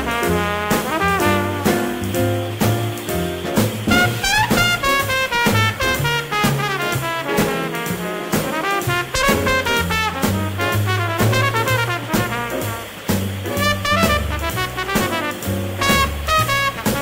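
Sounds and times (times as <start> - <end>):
swing jazz with horns: 0.0 - 17.0.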